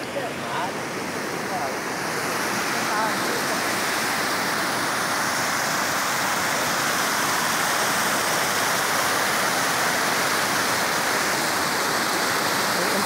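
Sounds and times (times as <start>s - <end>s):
floodwater rushing over spillway: 0.0s - 13.0s.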